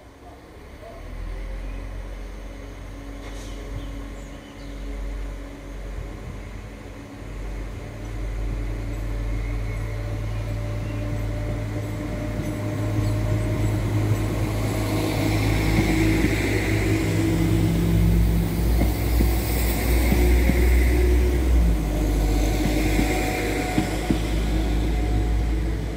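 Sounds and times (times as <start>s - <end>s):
train diesel engines humming: 0.0s - 25.9s.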